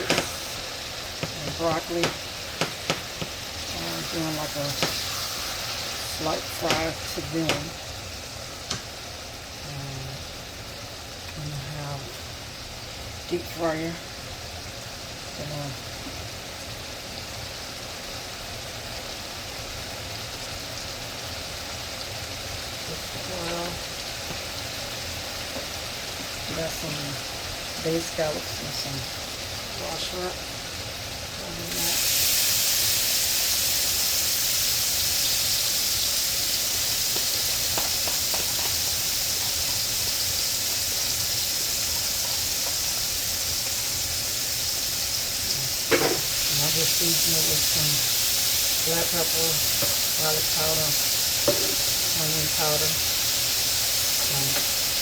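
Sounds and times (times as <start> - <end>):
cooking oil sizzling: 0.0 - 55.0.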